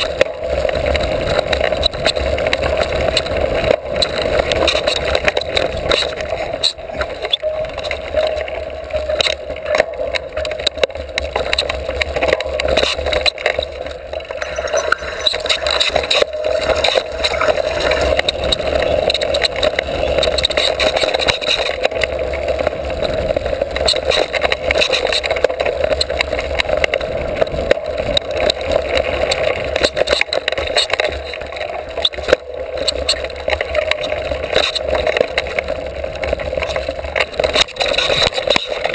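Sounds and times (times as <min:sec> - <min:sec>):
bike rattling over bumps: 0:00.0 - 0:38.9
wind and tyre noise: 0:00.0 - 0:38.9.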